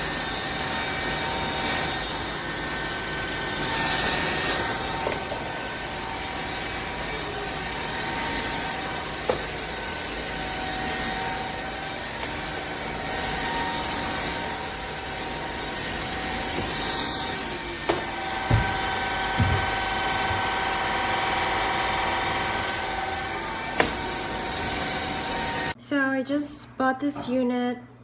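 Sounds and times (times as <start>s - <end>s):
stick vacuum running: 0.0s - 25.8s.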